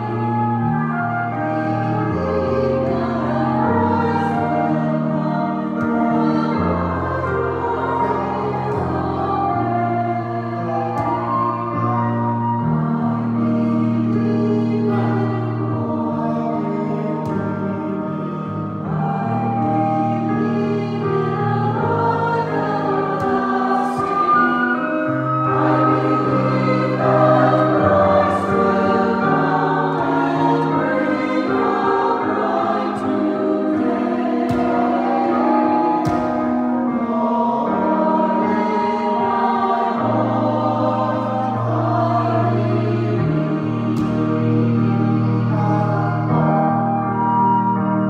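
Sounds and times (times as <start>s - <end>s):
choir singing slow chords: 0.0s - 48.0s.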